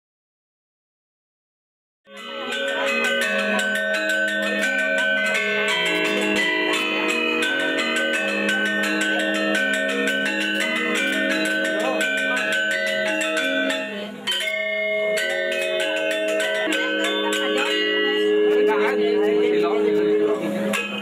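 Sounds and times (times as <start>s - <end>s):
gamelan music: 2.1s - 21.0s.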